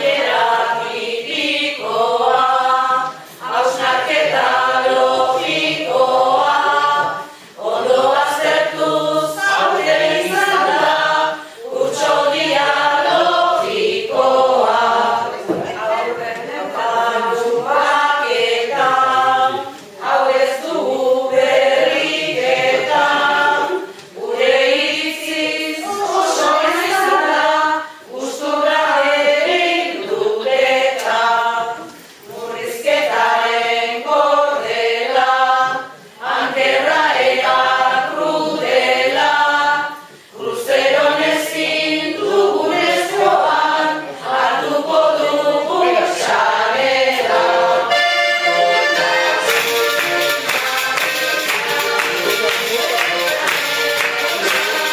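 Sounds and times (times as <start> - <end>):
group of voices singing: 0.0 - 54.9.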